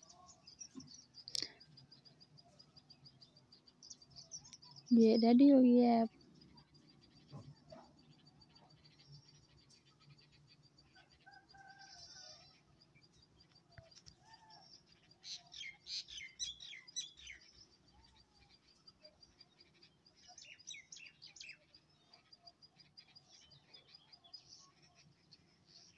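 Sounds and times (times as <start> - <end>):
faint birds chirping: 0.0 - 25.9.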